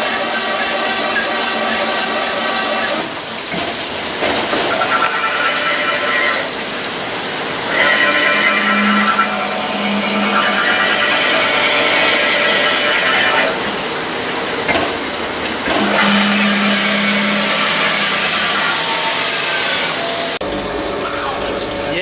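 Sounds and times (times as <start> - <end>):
metal-cutting machine grinding: 0.0 - 3.2, 4.7 - 6.8, 7.4 - 20.4.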